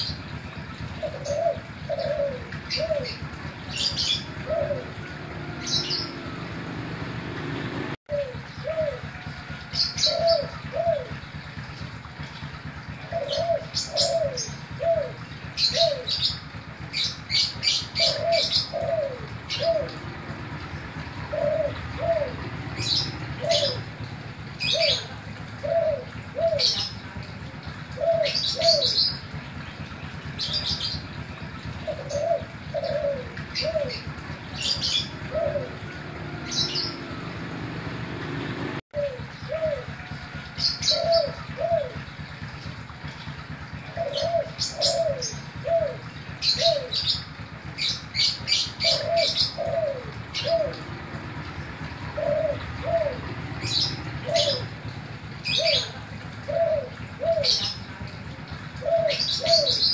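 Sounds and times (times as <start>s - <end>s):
dove cooing: 0.0s - 29.6s, 30.2s - 59.9s
small birds chirping: 0.0s - 59.9s.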